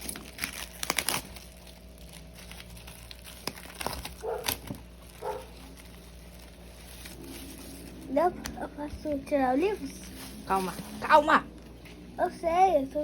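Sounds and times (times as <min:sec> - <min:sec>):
plastic wrapping crinkling and tearing: 0:00.0 - 0:12.1.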